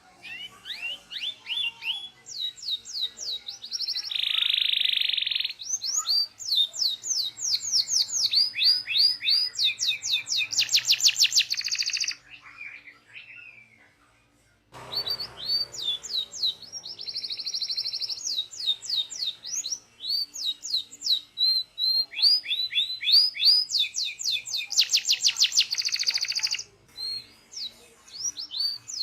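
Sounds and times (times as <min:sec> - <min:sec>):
canary singing: 0:00.2 - 0:13.8, 0:14.8 - 0:29.0.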